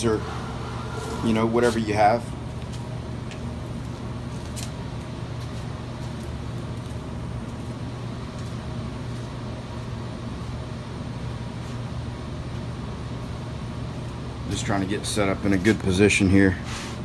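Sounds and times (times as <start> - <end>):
electrical hum and fan noise: 0.0 - 17.0.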